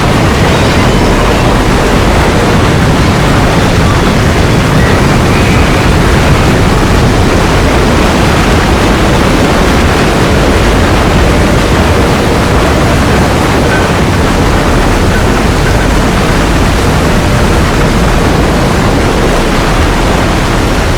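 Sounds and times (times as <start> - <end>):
loud steady rushing noise: 0.0 - 20.9.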